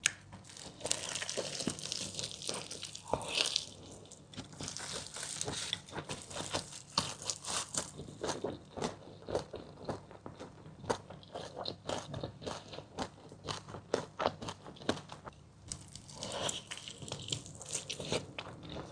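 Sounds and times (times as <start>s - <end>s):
crunchy chewing of fried chicken: 0.2s - 18.9s.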